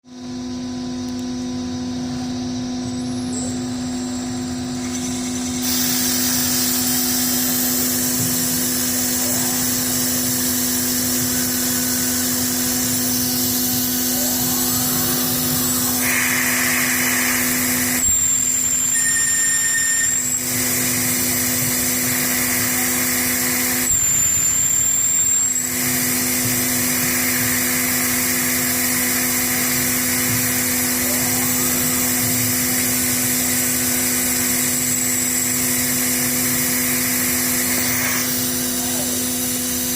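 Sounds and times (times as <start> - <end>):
high whine: 0.1 - 39.9
lathe machine hum: 0.1 - 39.9
hissing cutting noise: 4.8 - 39.9.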